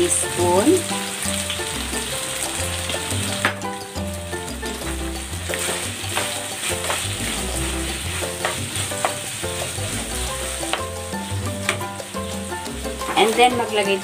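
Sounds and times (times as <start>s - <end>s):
food sizzling in a wok: 0.0s - 14.0s
spatula scraping and tapping pan: 1.1s - 13.4s.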